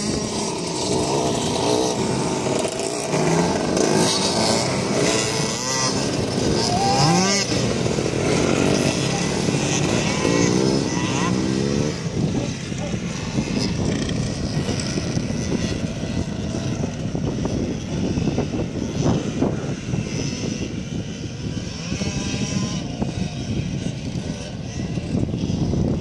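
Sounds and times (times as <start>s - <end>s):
distant off-road motorcycles buzzing: 0.0s - 26.0s.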